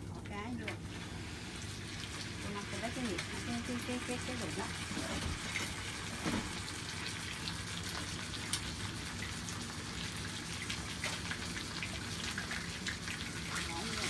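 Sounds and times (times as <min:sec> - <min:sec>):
fish frying in hot oil: 0:00.0 - 0:14.0.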